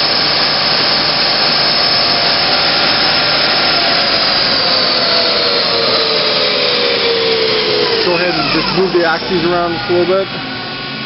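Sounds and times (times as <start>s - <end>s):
lathe spindle whirring with high whine: 0.0s - 11.0s.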